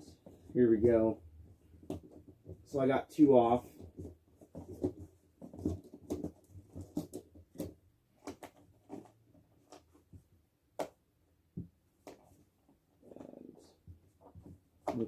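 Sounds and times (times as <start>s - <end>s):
plastic and cardboard rustling: 0.0s - 10.4s, 11.6s - 15.0s.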